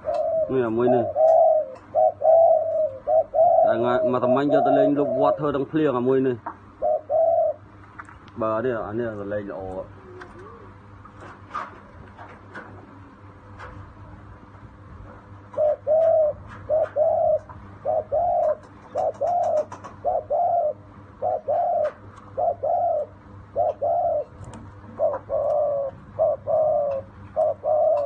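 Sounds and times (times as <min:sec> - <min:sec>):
dove cooing: 0:00.0 - 0:07.8, 0:09.1 - 0:13.8, 0:15.0 - 0:28.0.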